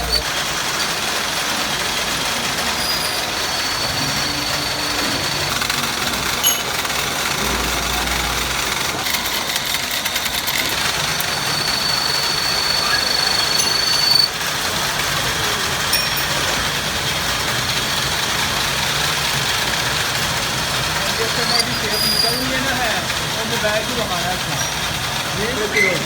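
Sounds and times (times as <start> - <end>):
workshop machinery noise: 0.0 - 26.0.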